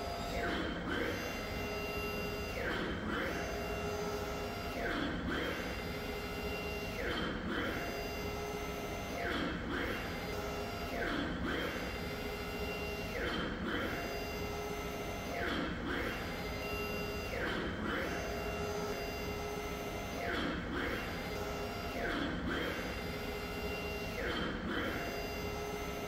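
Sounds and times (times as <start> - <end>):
printing machine motor whine: 0.0 - 26.0.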